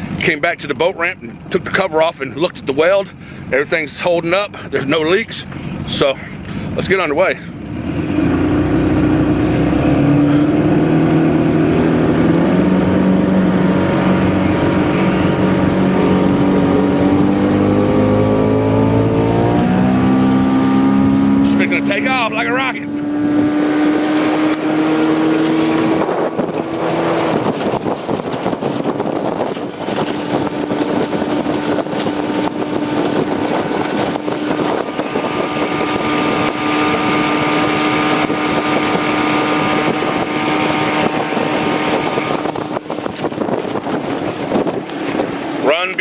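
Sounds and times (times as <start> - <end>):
boat motor running at speed: 0.0 - 46.0
water noise: 0.0 - 46.0
wind noise on microphone: 7.5 - 46.0.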